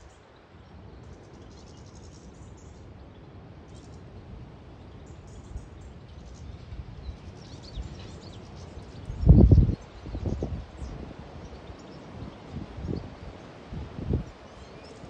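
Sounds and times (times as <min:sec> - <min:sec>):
small songbirds twittering: 0:00.0 - 0:15.0.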